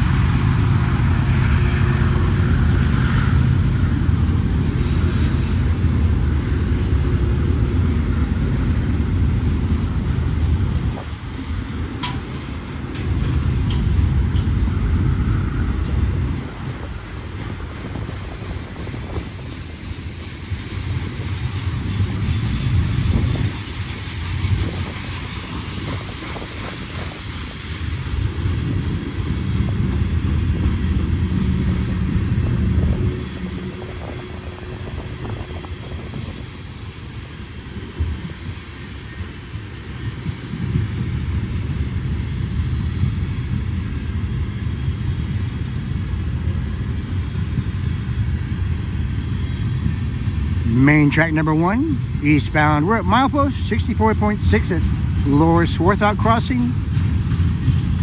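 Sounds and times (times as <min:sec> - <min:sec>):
diesel locomotives rumbling: 0:00.0 - 0:58.0.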